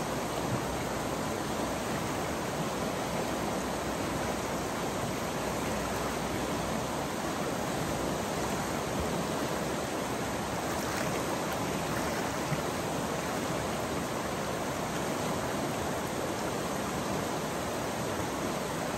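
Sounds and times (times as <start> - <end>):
river rushing over rocks: 0.0 - 18.9.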